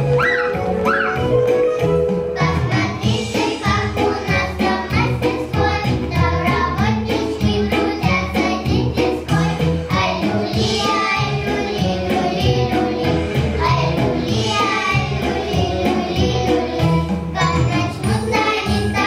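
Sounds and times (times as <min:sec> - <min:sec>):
instrumental accompaniment with beat: 0:00.0 - 0:19.0
children's choir singing: 0:00.3 - 0:19.0.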